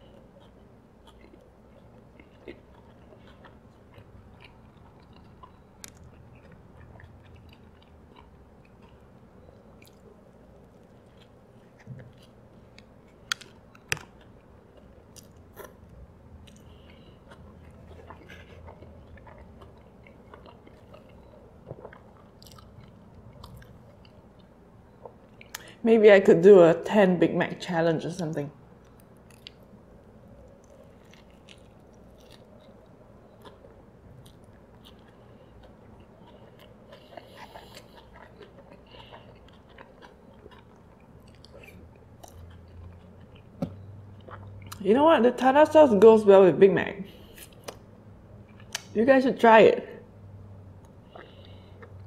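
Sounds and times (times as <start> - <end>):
wet chewing sounds: 0.0 - 25.8, 28.8 - 44.8, 47.1 - 49.0, 50.6 - 52.0.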